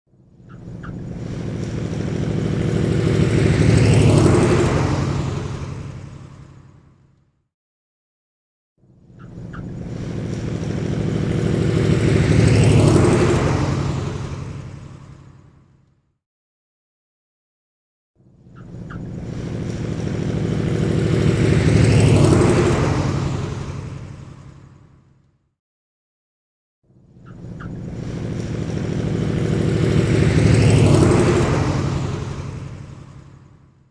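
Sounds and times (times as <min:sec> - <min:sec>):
propeller aircraft drone: 0:00.1 - 0:07.5, 0:08.8 - 0:16.2, 0:18.2 - 0:25.5, 0:26.8 - 0:33.9.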